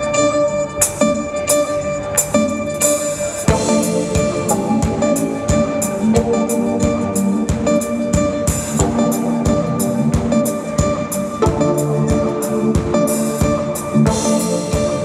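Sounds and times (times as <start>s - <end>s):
guitar: 0.0s - 15.0s
keyboard chords: 0.0s - 15.0s
drum kit beat: 0.8s - 15.0s.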